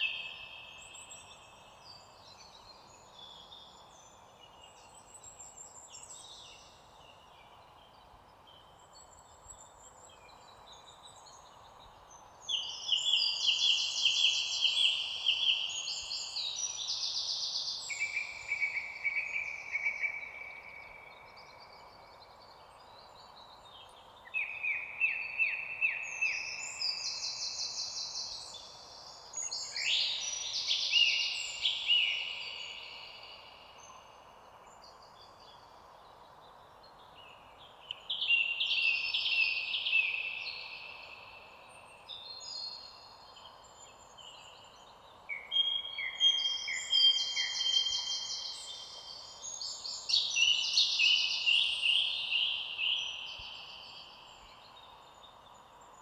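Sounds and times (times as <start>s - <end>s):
birds singing: 0.0s - 56.0s
faint background hiss: 0.0s - 56.0s.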